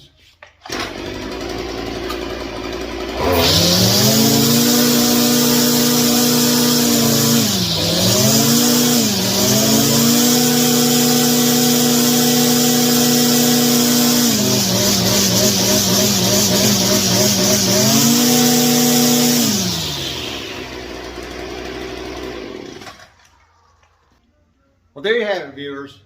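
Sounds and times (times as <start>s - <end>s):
string trimmer engine revving: 0.6s - 23.2s.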